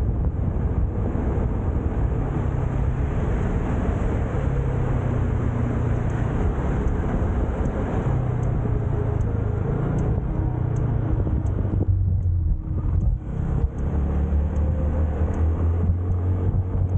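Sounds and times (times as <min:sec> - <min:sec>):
heavy traffic passing: 0:00.0 - 0:16.9
motor scooter engine drone: 0:00.0 - 0:16.9
road noise: 0:00.0 - 0:16.9.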